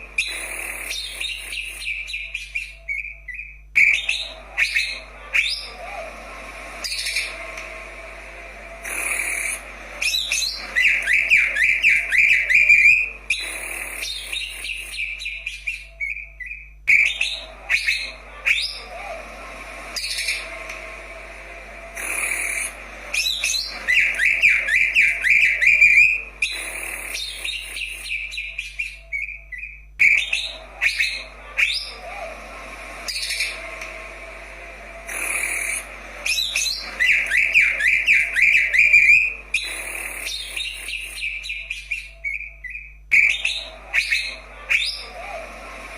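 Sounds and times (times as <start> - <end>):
bird singing: 0.0 - 6.0, 8.8 - 19.2, 22.0 - 32.2, 35.1 - 45.4.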